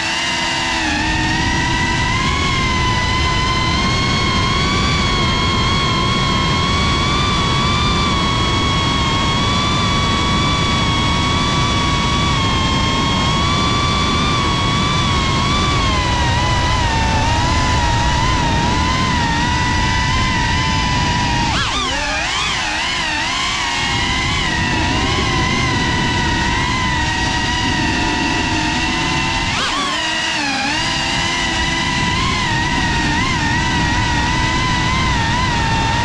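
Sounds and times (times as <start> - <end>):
drone motors whining: 0.0 - 36.0.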